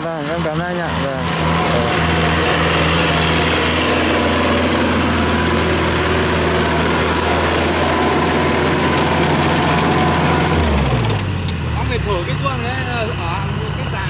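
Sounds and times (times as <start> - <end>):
rotary tiller in soil: 0.0 - 11.8
tractor diesel engine running: 0.0 - 14.0.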